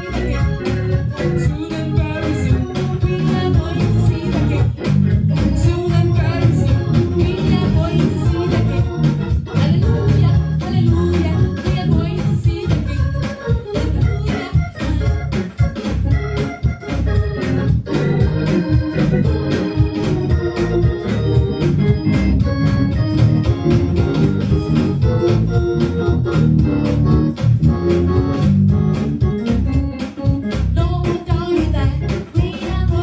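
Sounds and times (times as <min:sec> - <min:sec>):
gospel organ music with beat: 0:00.0 - 0:33.0.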